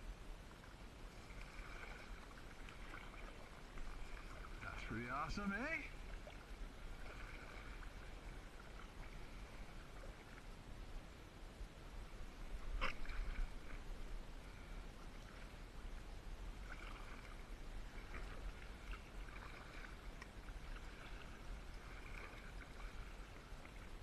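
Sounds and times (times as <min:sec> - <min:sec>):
paddle splashing in water: 0:00.5 - 0:10.5, 0:12.4 - 0:24.0.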